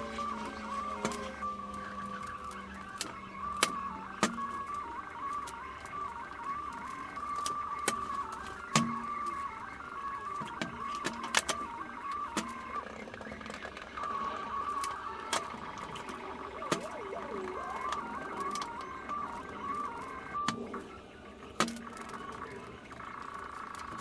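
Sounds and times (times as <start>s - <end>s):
faint wavering high tone: 0.0s - 24.0s.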